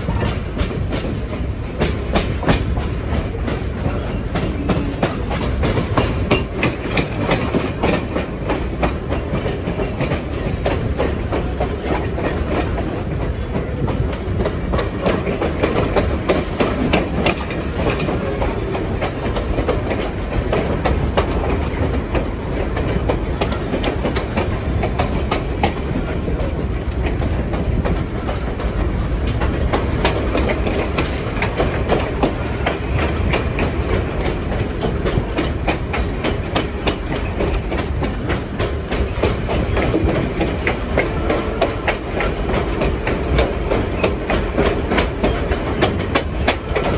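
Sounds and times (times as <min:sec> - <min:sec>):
track clicks and clacks: 0:00.0 - 0:46.9
train wheels rumbling on rail: 0:00.0 - 0:46.9.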